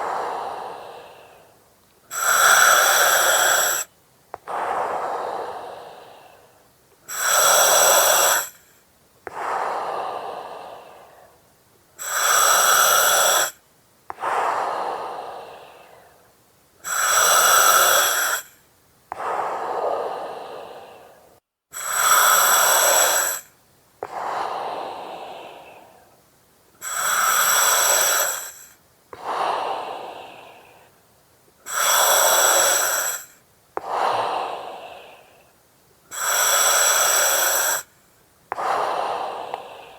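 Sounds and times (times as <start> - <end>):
breathing through oxygen mask: 0.0 - 11.4, 12.0 - 26.1, 26.8 - 31.0, 31.6 - 35.5, 36.1 - 37.9, 38.5 - 39.9.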